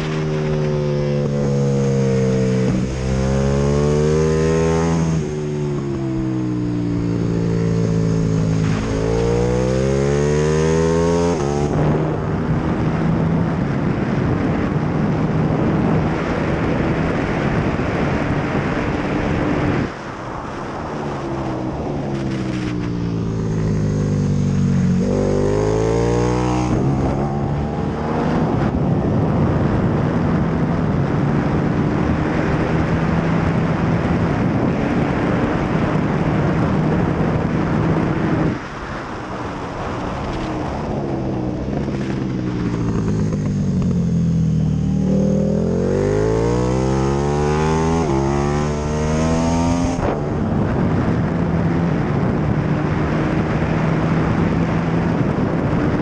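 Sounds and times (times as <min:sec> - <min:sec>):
motorcycle engine revving: 0:00.0 - 0:20.1, 0:20.8 - 0:38.9, 0:39.6 - 0:56.0
rushing wind noise: 0:00.0 - 0:56.0.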